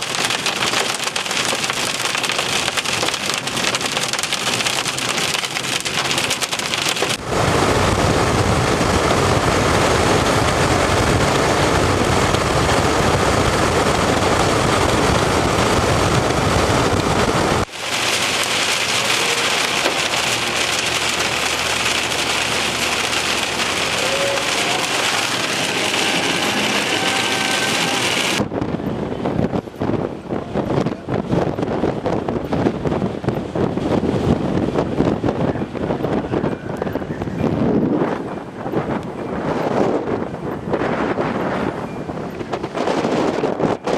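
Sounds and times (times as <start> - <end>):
heavy rain on a vehicle: 0.0 - 36.8, 42.3 - 43.9.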